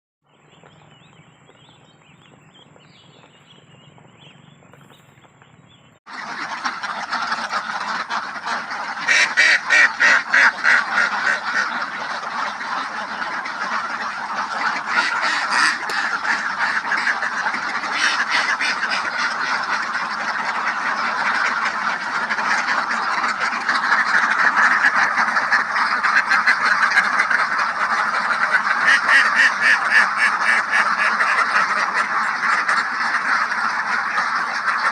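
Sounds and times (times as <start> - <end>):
flock of ducks quacking: 0.3 - 34.9.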